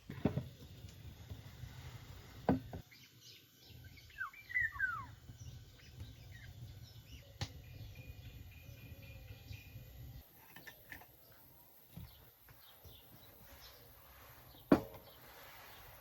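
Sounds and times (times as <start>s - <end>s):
bird chirping: 2.8s - 16.0s.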